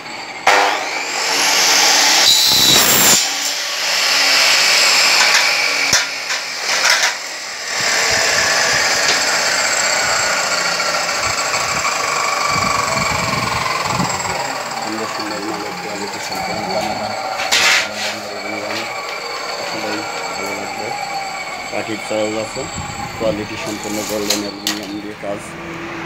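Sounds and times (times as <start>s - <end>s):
chop saw cutting metal: 0.0s - 25.9s.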